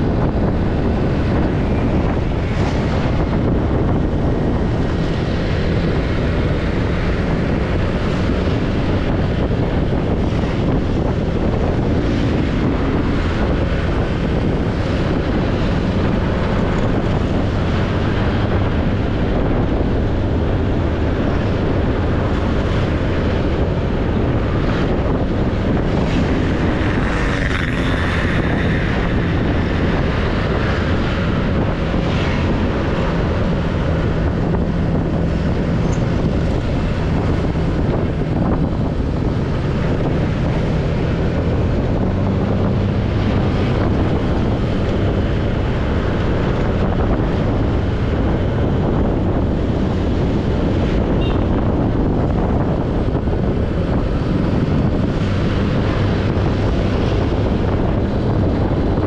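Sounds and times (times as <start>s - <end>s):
road noise: 0.0s - 59.0s
wind rushing over microphone: 0.0s - 59.0s.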